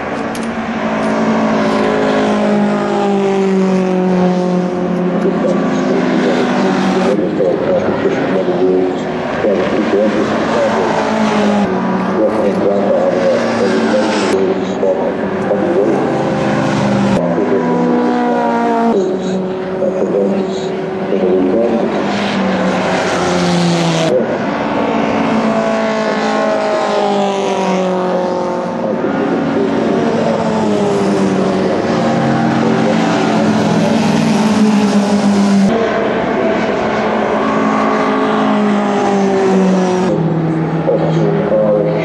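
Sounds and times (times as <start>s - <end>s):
racing car engines accelerating: 0.0s - 42.0s.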